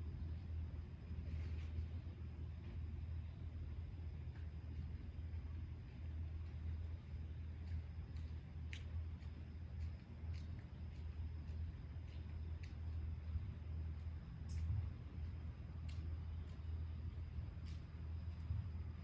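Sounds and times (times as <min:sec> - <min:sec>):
constant low rumble: 0:00.0 - 0:19.0
insects chirping: 0:00.0 - 0:19.0.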